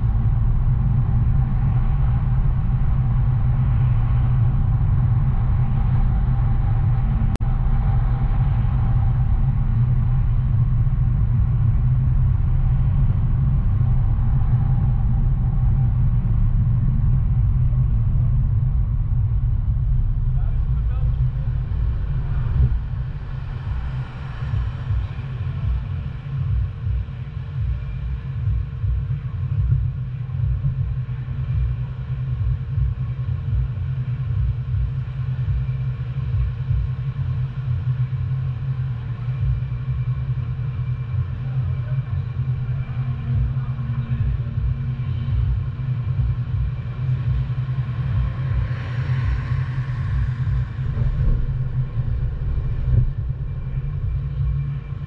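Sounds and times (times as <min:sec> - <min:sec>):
car driving on city streets: 0:00.0 - 0:55.0.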